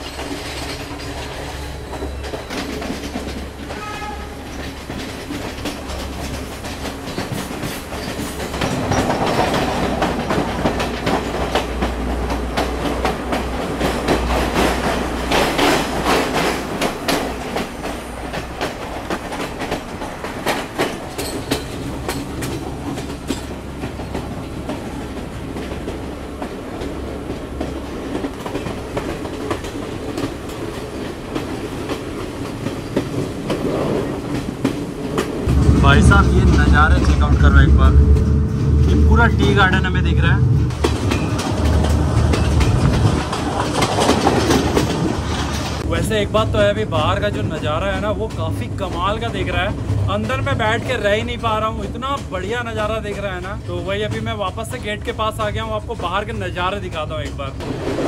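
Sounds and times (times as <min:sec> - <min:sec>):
train low rumble: 0:00.0 - 0:58.0
train wheels clattering on rails: 0:00.0 - 0:58.0.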